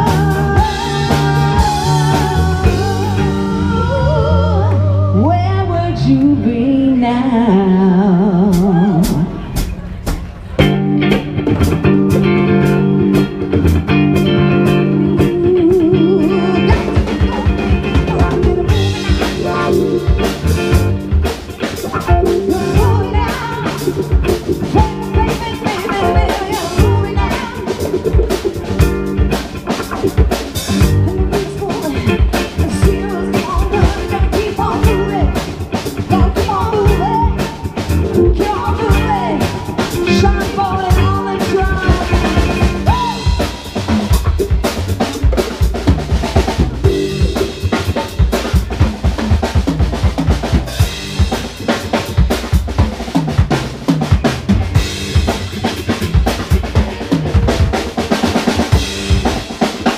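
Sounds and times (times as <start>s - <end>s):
drum kit beat: 0.0s - 5.9s, 8.2s - 59.9s
lead line with bent notes: 0.0s - 59.9s
live funk-rock band playing: 0.0s - 59.9s.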